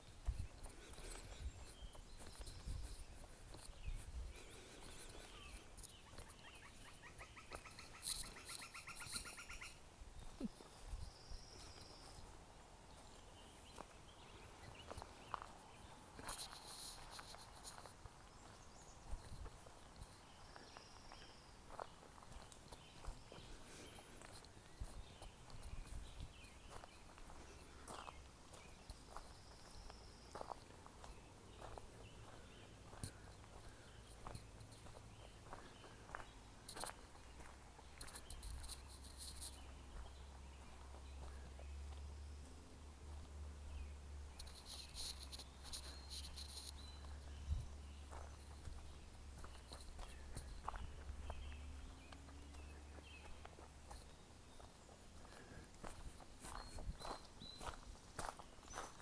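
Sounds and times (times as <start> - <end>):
footsteps on trail: 0.0 - 59.0.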